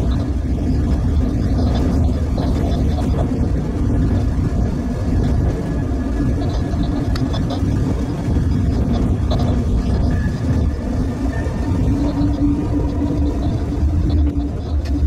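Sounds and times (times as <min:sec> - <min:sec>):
faint whine: 0:00.0 - 0:15.0
locomotive rumble: 0:00.0 - 0:15.0.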